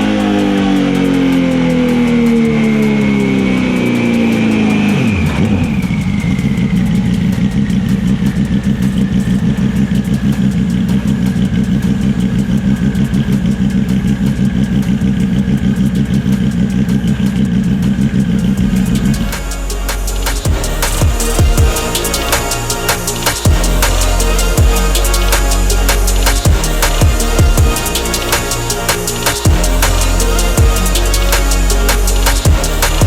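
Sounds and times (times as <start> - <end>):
car engine idling: 0.0 - 33.0
high whine spinning down: 0.0 - 33.0.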